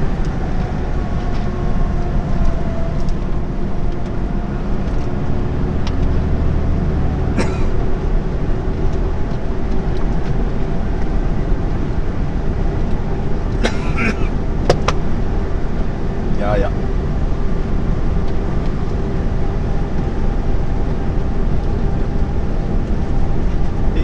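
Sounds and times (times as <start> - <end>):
truck engine and tyres droning: 0.0 - 24.0.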